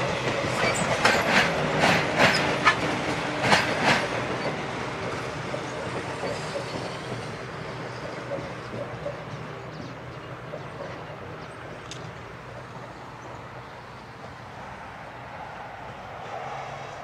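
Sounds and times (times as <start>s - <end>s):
distant train rumble and hum: 0.0s - 17.0s.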